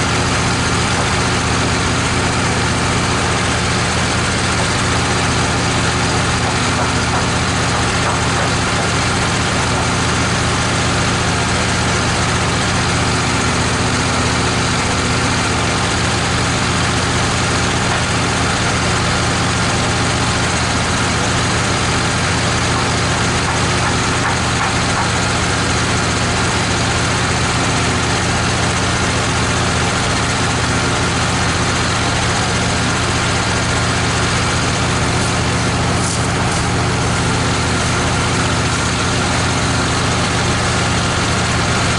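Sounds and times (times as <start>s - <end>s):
band sawmill engine running: 0.0s - 41.9s.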